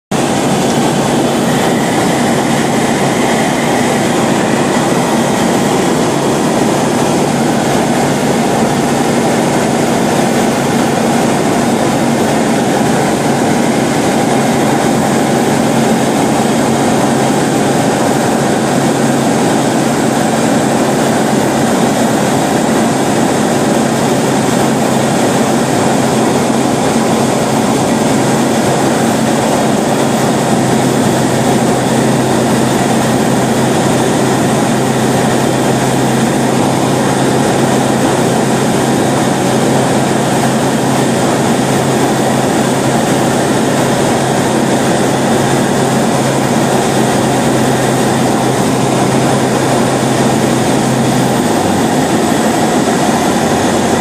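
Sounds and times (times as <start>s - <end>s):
aircraft engine droning: 0.1s - 54.0s
rushing air: 0.1s - 54.0s.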